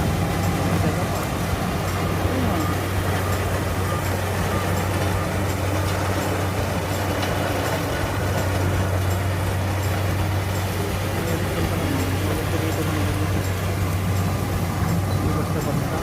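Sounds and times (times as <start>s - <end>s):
harvester engine humming: 0.0s - 16.0s.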